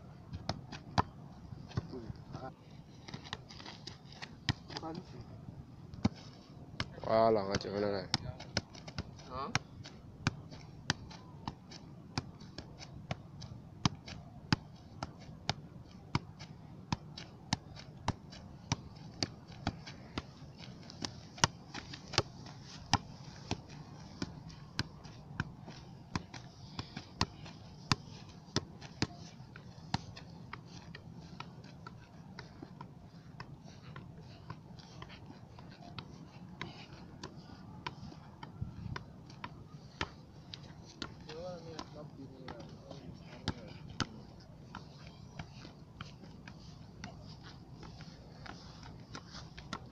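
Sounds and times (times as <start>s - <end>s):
football thuds: 6.0s - 49.9s.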